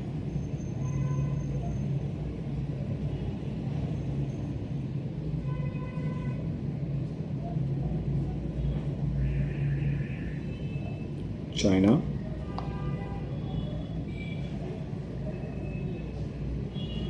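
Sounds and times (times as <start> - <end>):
low mechanical hum and rumble: 0.0 - 17.0.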